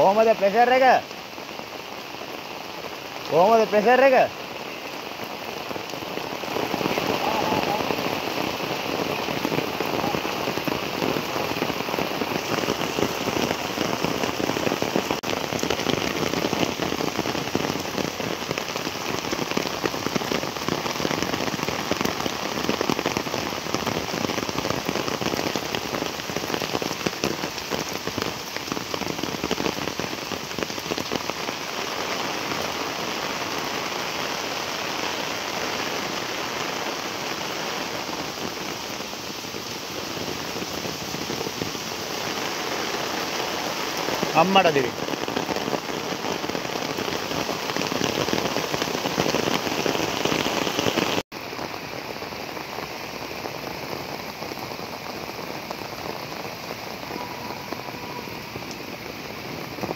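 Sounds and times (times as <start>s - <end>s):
floodwater rushing down ditch: 0.0s - 59.9s
heavy rain: 0.0s - 59.9s.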